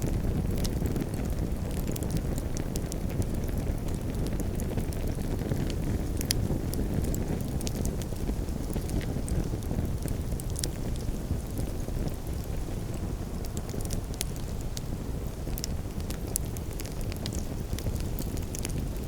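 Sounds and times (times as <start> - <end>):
campfire burning: 0.0 - 19.0
wood crackling and popping: 0.0 - 19.0.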